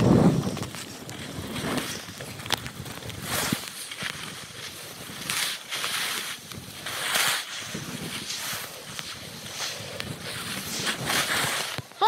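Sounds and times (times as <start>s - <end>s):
skis swishing over snow: 0.0s - 12.0s.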